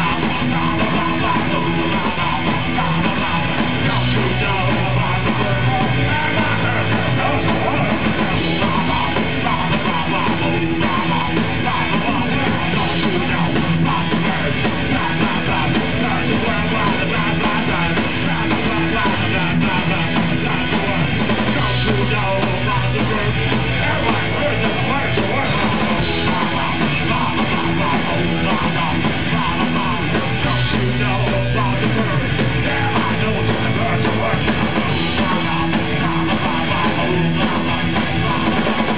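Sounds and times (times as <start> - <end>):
bass guitar: 0.0 - 38.9
drums: 0.0 - 38.9
electric guitars: 0.0 - 38.9.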